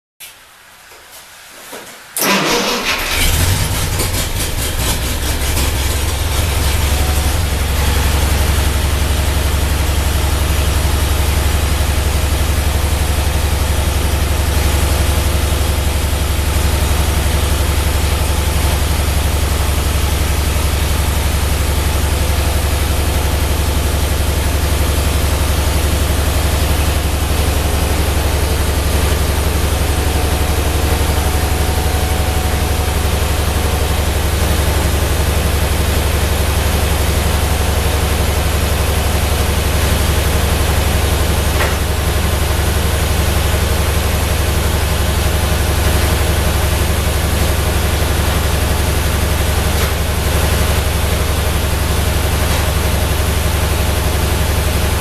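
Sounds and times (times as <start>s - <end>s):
tractor engine idling: 2.2s - 55.0s.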